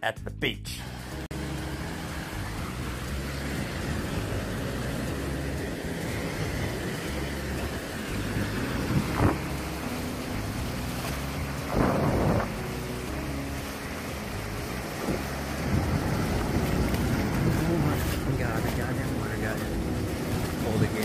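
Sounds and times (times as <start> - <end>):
ocean surf washing on beach: 0.9 - 21.0
wind buffeting microphone: 1.8 - 21.0.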